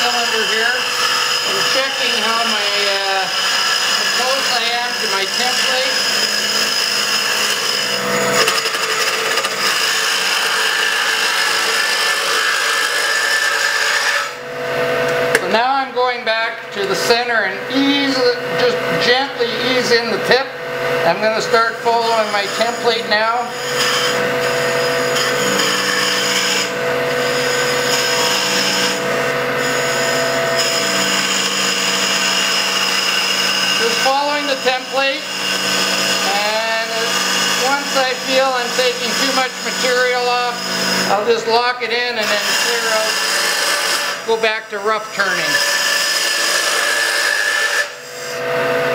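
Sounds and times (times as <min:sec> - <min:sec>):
wood lathe cutting wood: 0:00.0 - 0:48.9.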